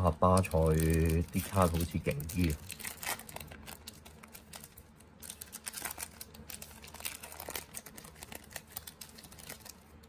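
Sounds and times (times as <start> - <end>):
trading cards clicking and rustling: 0.2 - 9.7.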